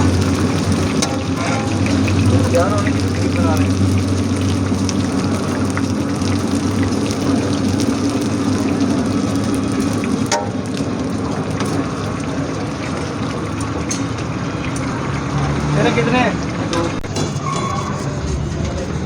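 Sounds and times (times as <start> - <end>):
food sizzling in a pan: 0.0 - 16.9.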